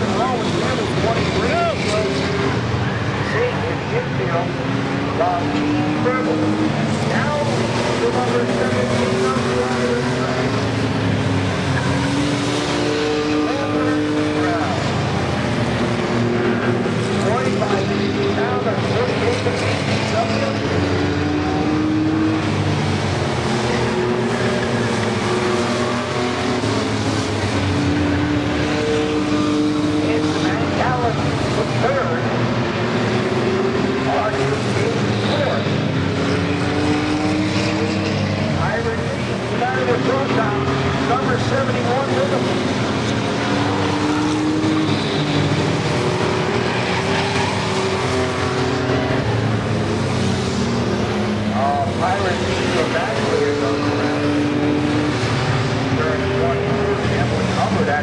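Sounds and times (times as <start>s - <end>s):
racing truck engines droning: 0.0s - 58.0s.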